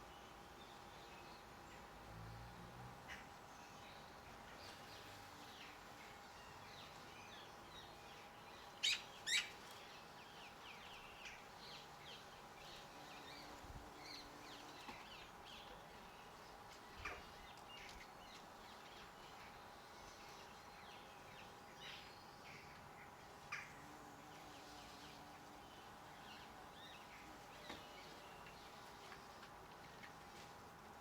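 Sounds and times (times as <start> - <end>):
faint steady hum: 0.0 - 31.0
garden birds chirping: 0.0 - 31.0.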